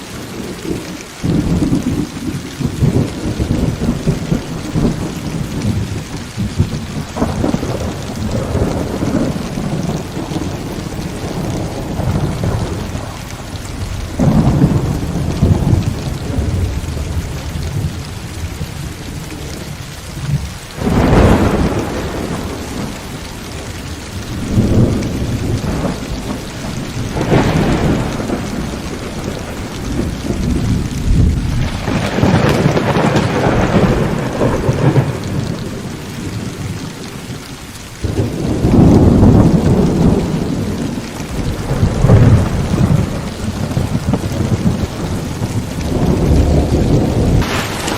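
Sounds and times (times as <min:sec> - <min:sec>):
heavy rain: 0:00.0 - 0:47.9
thunder rumbling: 0:00.0 - 0:47.9
sharp thunder crack: 0:00.6 - 0:17.8, 0:20.8 - 0:23.2, 0:24.3 - 0:36.9, 0:38.0 - 0:47.9.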